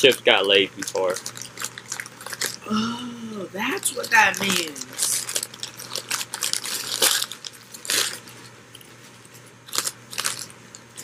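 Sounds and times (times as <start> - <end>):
chip bag crinkling: 0.0 - 2.6, 3.8 - 11.0
chips crunching: 0.0 - 2.6, 3.8 - 11.0.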